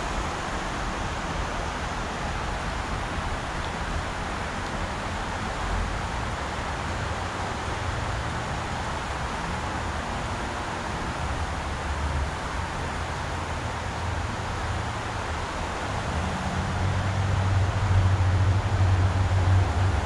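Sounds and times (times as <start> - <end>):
fast-flowing river rushing: 0.0 - 20.0.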